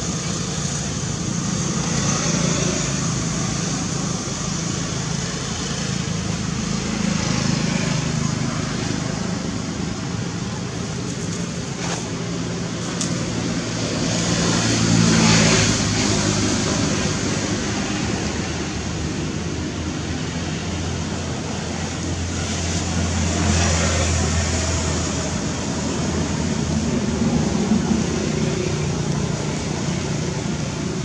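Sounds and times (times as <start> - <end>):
road traffic noise: 0.0 - 31.0.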